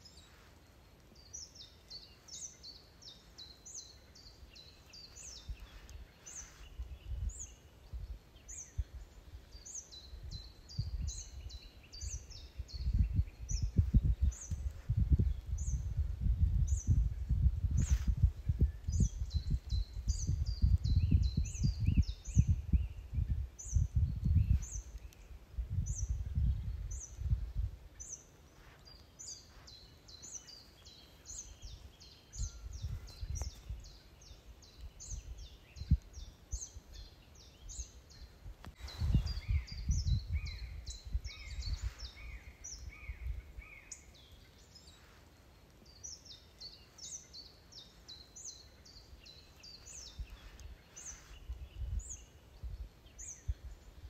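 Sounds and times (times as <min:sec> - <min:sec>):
songbirds chirping: 0:00.0 - 0:54.0
wind rumbling on microphone: 0:00.0 - 0:54.0.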